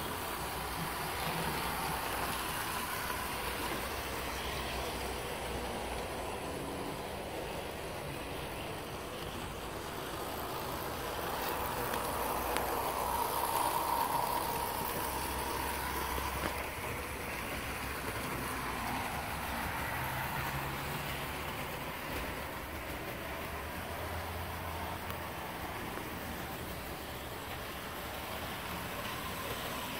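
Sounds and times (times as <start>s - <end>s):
model train motor whir: 0.0s - 29.9s
wheels on rails: 0.0s - 29.9s.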